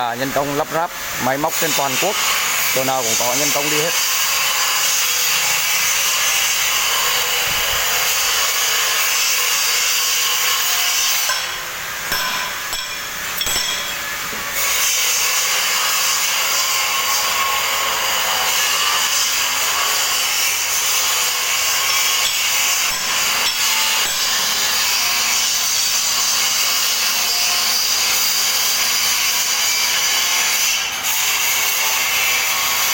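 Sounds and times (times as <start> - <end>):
power tool grinding: 0.3 - 32.9.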